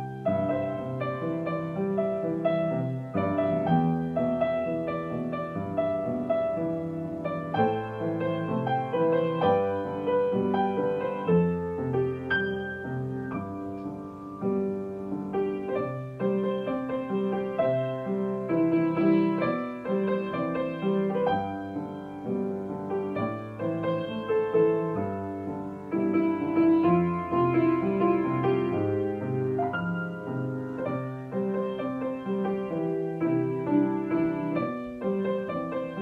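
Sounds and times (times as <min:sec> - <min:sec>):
solo grand piano: 0:00.0 - 0:36.0.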